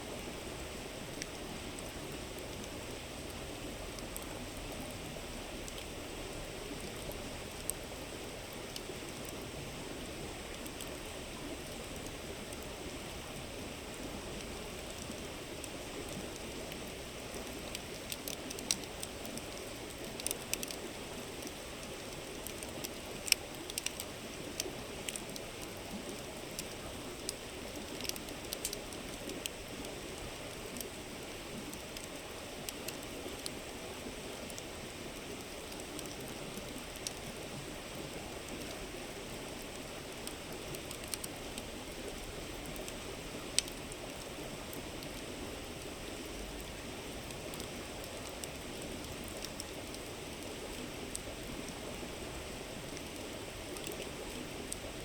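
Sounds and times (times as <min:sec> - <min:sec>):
campfire crackling and popping: 0:01.0 - 0:55.0.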